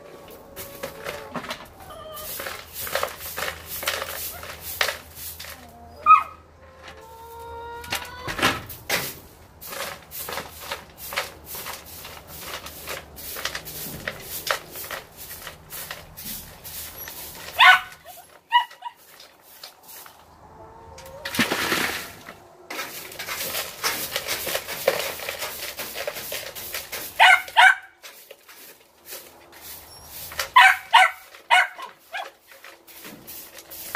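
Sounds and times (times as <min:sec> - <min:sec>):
hand brush sweeping into dustpan: 0:00.0 - 0:05.7, 0:08.6 - 0:20.4, 0:21.3 - 0:33.9.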